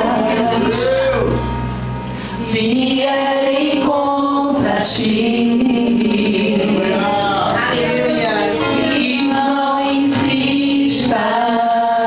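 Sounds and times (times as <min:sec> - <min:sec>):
women singing gospel song: 0:00.0 - 0:01.4, 0:02.4 - 0:12.0.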